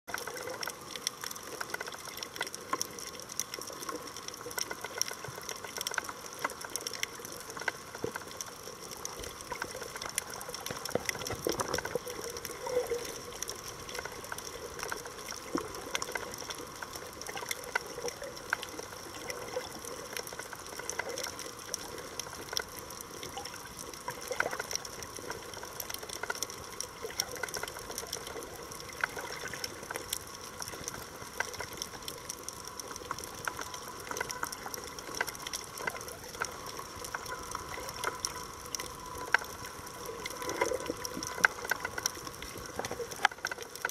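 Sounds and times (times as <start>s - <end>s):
dense crackle of tiny clicks: 0.0s - 43.9s
faint steady tones: 0.1s - 43.9s.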